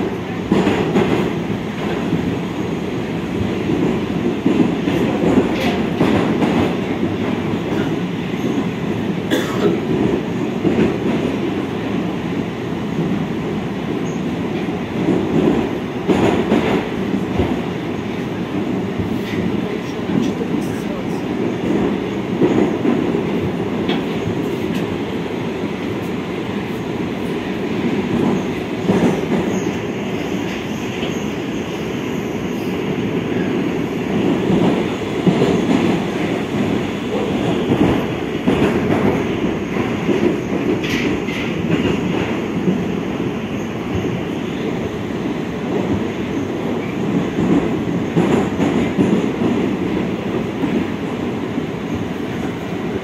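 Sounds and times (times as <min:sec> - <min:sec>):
train rumbling in tunnel: 0:00.0 - 0:53.0.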